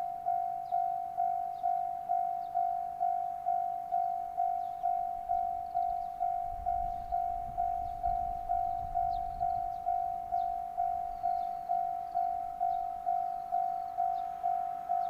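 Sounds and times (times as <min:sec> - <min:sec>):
level-crossing warning bell ringing: 0:00.0 - 0:15.0.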